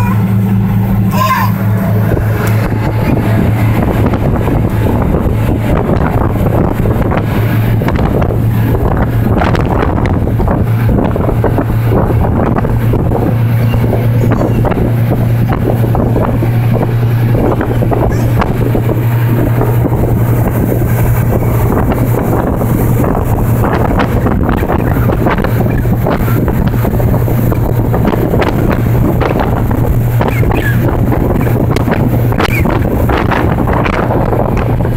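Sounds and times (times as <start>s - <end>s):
ship engine droning: 0.0s - 34.9s
wind buffeting microphone: 0.0s - 34.9s.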